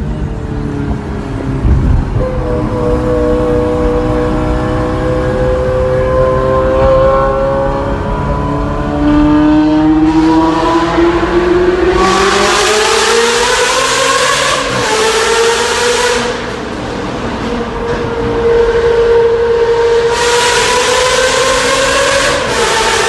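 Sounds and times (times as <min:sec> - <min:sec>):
car engine accelerating in a tunnel: 0:00.0 - 0:23.0.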